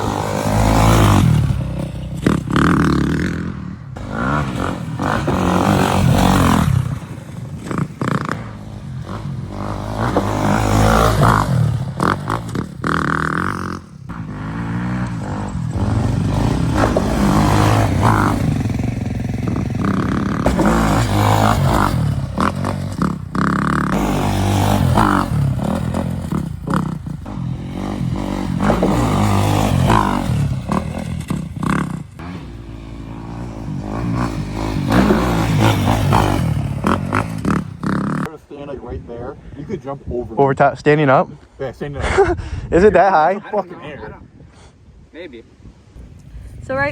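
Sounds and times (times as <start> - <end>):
atv engine revving: 0.0 - 38.4.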